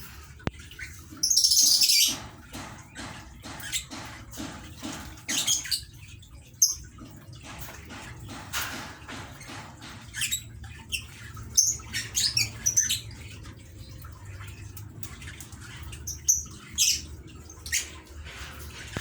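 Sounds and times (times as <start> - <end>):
lovebirds chirping and squeaking: 0.0 - 4.1, 4.8 - 7.0, 9.0 - 19.0.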